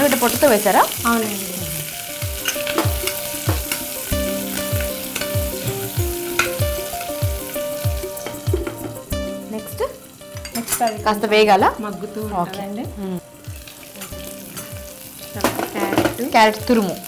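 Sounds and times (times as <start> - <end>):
background music with beat: 0.0 - 17.0
vegetables sizzling in a pot: 0.0 - 17.0.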